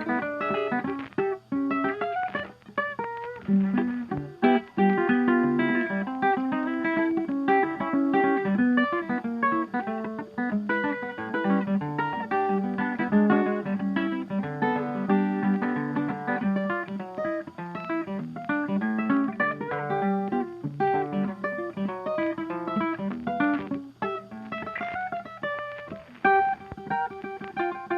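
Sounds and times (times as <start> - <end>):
acoustic guitar plucked notes: 0.0 - 27.9.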